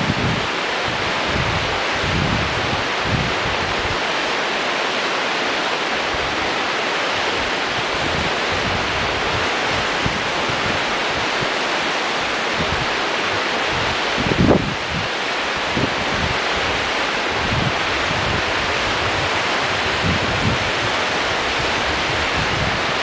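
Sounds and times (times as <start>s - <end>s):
wind buffeting microphone: 0.0s - 4.5s, 6.0s - 23.0s
rapids rushing: 0.0s - 23.0s.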